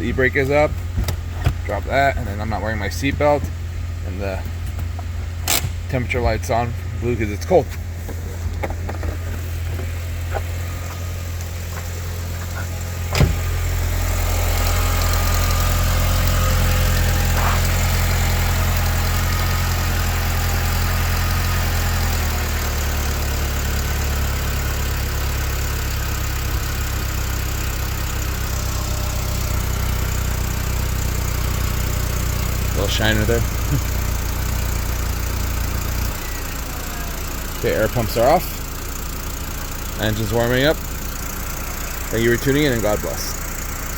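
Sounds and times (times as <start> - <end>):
car engine cold idling: 0.0 - 43.9.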